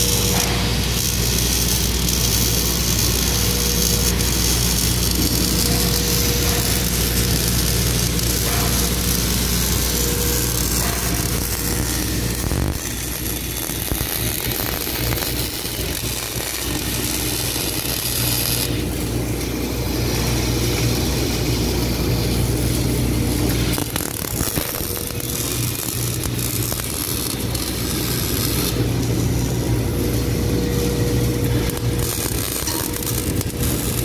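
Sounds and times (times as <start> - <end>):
low machinery hum: 0.0 - 34.0
welding arc hissing and crackling: 0.0 - 34.0.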